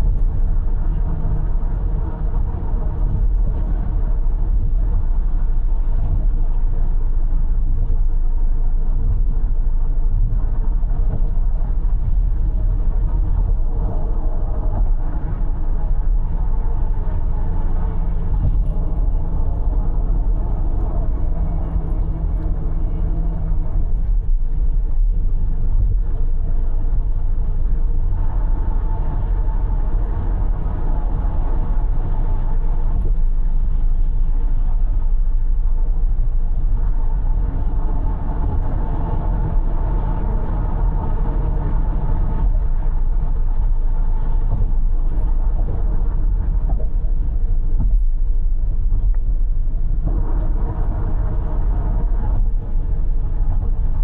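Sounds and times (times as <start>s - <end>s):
car tyre and engine rumble: 0.0s - 54.0s.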